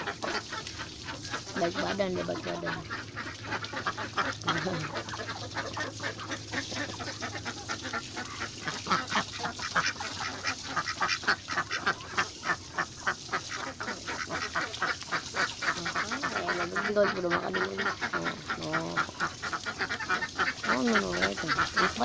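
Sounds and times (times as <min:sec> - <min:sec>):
duck bill sounds: 0:00.0 - 0:22.0
ducks quacking rapidly: 0:00.0 - 0:22.0.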